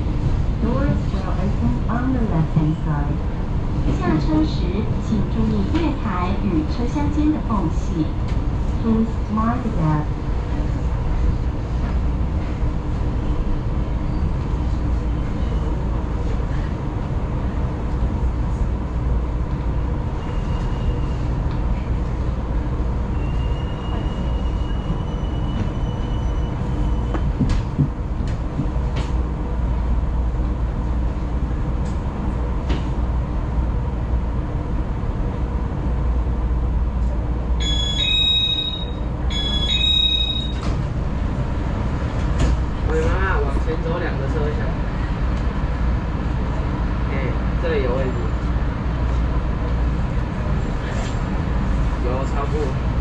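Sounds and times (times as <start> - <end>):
electric train rumbling: 0.0 - 53.0.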